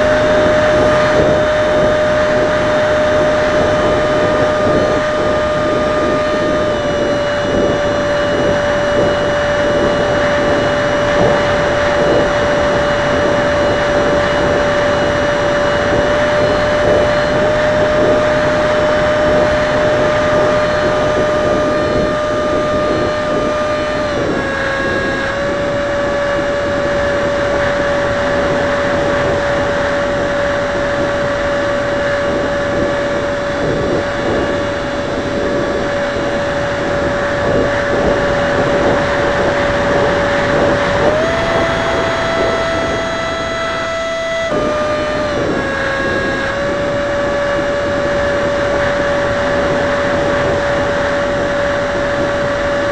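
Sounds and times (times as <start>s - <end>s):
electric ducted fan whining: 0.0s - 52.9s.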